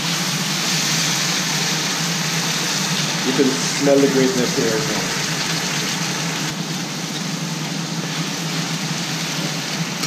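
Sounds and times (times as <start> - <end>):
herbs sizzling in hot oil: 0.0 - 10.0.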